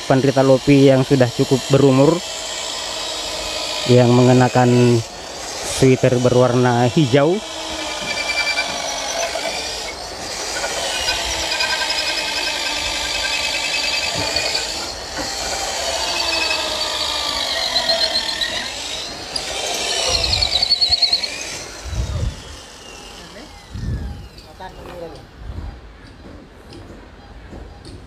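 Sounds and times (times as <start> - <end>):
electric drill boring wood: 0.0 - 25.1.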